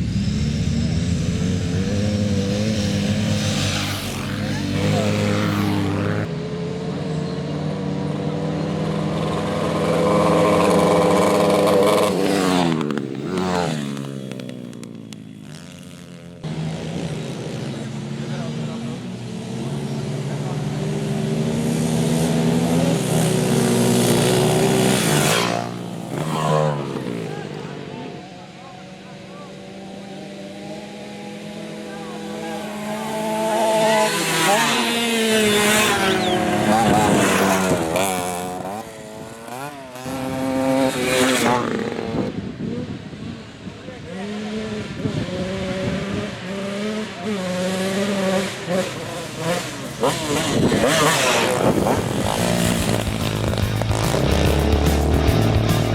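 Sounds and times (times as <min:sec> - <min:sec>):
motorcycle engine under throttle: 0:00.0 - 0:55.9.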